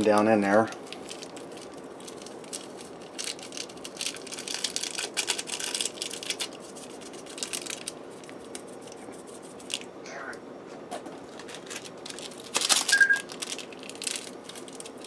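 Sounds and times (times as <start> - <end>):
foil packets crinkling: 0.0 - 9.9, 11.1 - 15.0.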